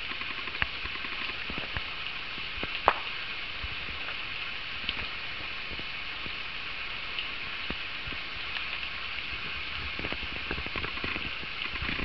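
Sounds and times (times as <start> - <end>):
small clicks and crackles: 0.0 - 4.2, 4.8 - 6.4, 7.1 - 12.0
small waterfall hissing: 0.0 - 12.0.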